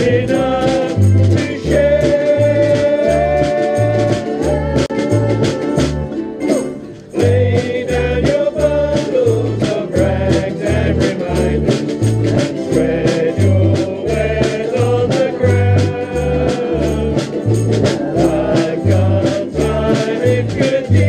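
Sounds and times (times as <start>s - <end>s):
low bass notes: 0.0s - 6.2s, 6.8s - 21.0s
many ukuleles strummed: 0.0s - 21.0s.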